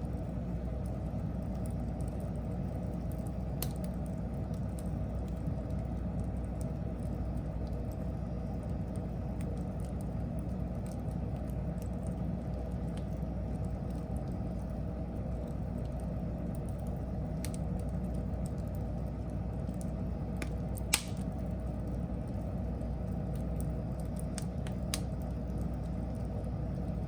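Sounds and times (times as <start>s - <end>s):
fire rumbling: 0.0s - 27.0s
wood crackling and snapping: 0.1s - 26.3s.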